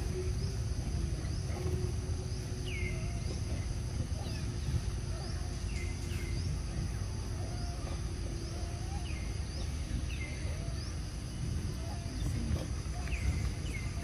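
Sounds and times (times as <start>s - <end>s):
bird chirping: 0.0s - 14.0s
insect drone: 0.0s - 14.0s.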